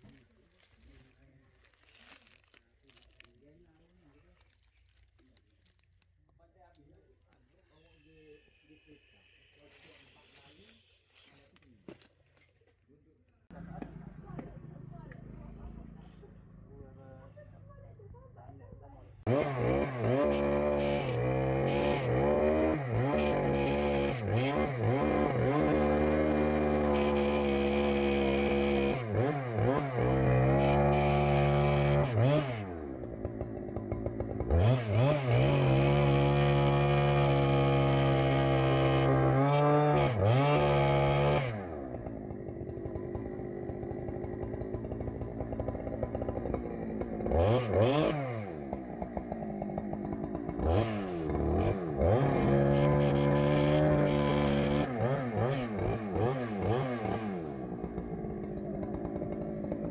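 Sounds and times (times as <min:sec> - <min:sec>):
chainsaw revving and idling: 0:00.0 - 0:05.9, 0:13.4 - 0:17.2, 0:19.2 - 0:59.9.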